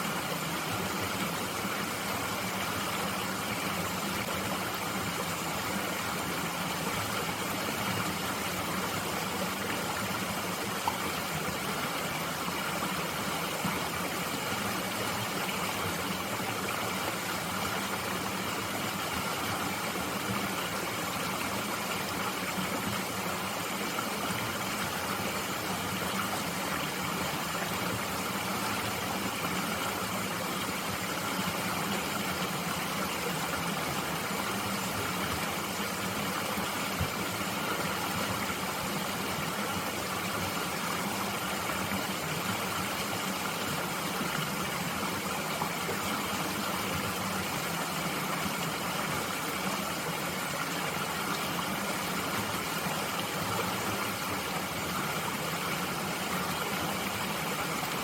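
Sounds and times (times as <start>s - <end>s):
mountain stream flowing: 0.0s - 58.0s.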